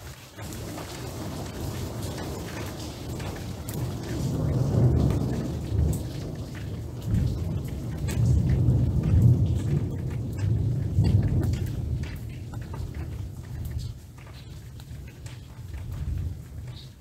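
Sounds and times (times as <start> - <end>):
rain drops ticking: 0.0 - 17.0
rain falling on leaves: 0.0 - 17.0
low uneven rumble: 2.1 - 17.0.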